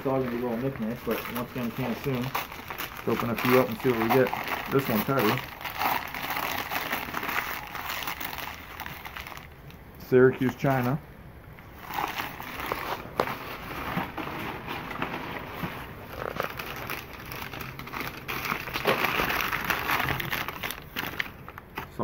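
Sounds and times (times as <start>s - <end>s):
wrapping paper crinkling: 0.0s - 9.7s, 11.7s - 22.0s.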